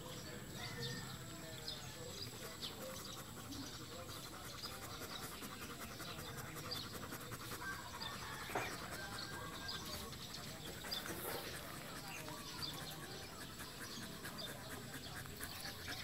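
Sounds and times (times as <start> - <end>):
dog panting: 1.7 - 16.0.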